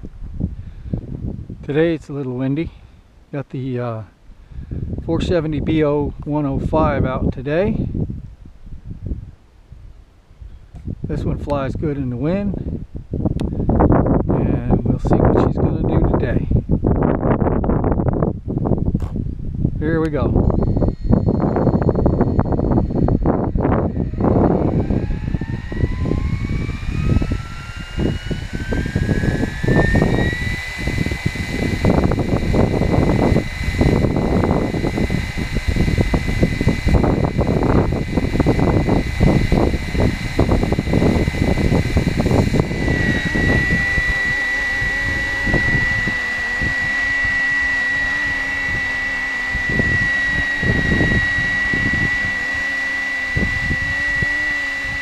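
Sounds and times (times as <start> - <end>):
wind buffeting microphone: 0.0 - 2.8, 4.3 - 55.0
rc helicopter motor and rotor whine: 10.6 - 55.0.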